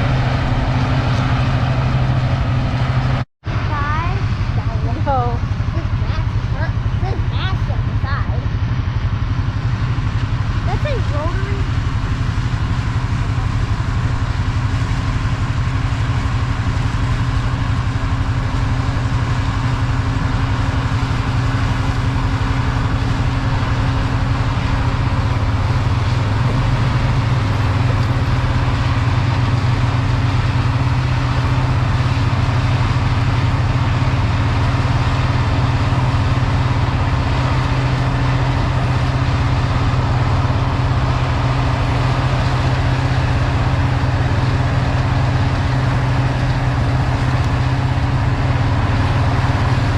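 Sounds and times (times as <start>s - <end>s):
farm machine engine droning: 0.0s - 49.9s.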